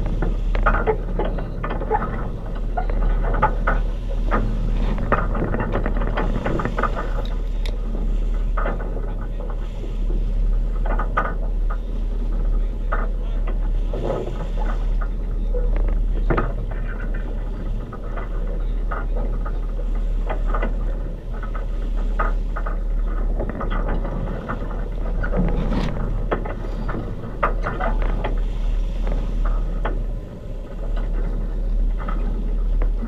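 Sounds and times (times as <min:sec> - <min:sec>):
water splashing along a hull: 0:00.0 - 0:33.0
wind rumble on microphone: 0:00.0 - 0:33.0.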